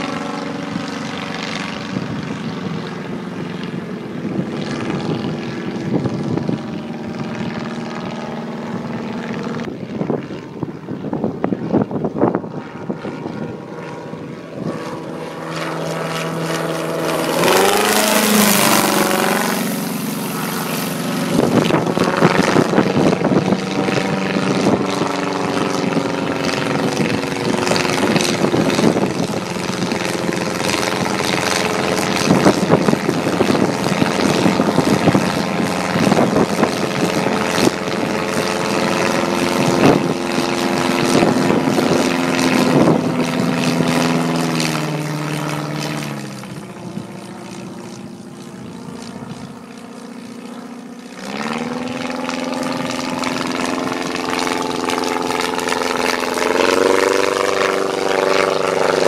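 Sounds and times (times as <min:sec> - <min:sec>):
autogyro engine droning overhead: 0:00.0 - 0:59.0.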